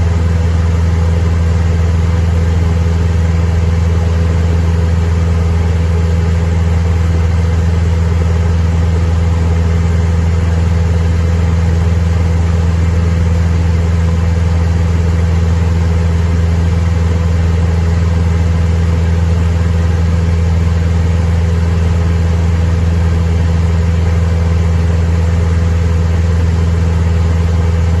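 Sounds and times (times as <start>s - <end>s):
propeller aircraft engine drone: 0.0s - 28.0s.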